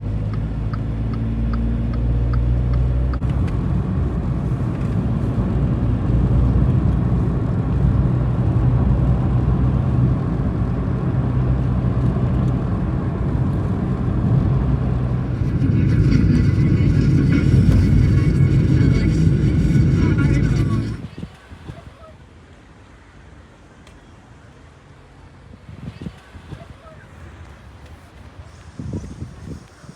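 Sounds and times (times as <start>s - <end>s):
road vehicle rumble: 0.0s - 29.9s.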